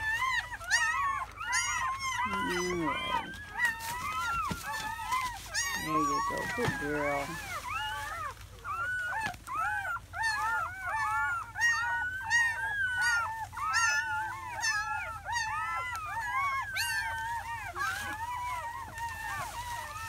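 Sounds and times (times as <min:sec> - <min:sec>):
puppies crying and squealing: 0:00.0 - 0:20.0.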